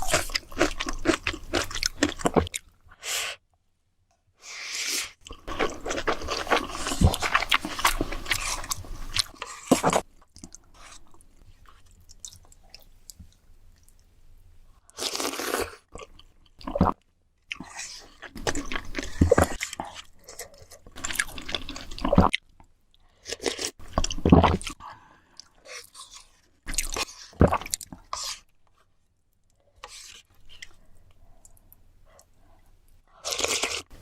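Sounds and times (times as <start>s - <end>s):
chewing and crunching food: 0.0s - 2.9s, 5.2s - 14.1s, 14.8s - 34.0s.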